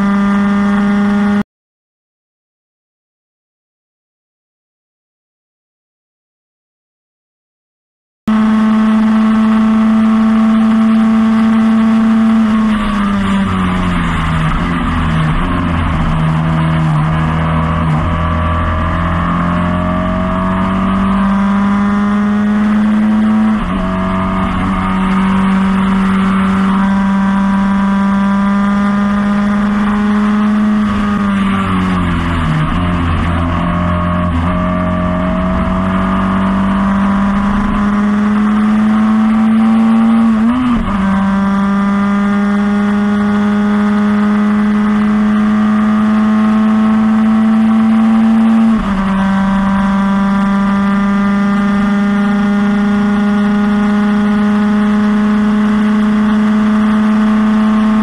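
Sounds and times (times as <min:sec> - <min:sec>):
race car engine at high revs: 0:00.0 - 0:01.4, 0:08.3 - 0:58.0.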